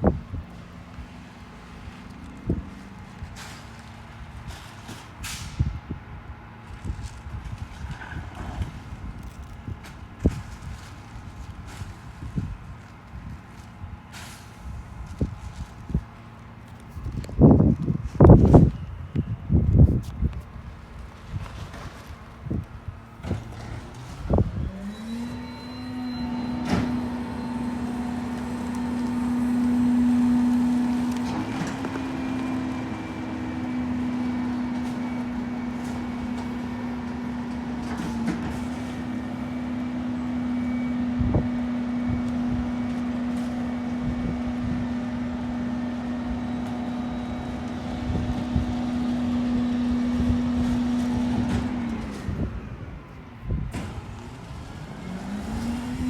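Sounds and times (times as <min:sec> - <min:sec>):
garbage truck engine and hydraulics whine: 0:00.0 - 0:56.0.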